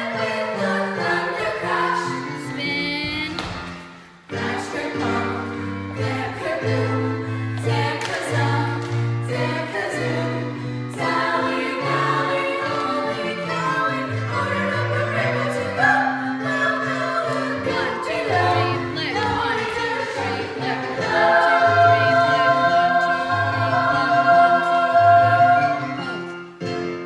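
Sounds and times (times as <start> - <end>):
group of voices singing: 0.0 - 26.8.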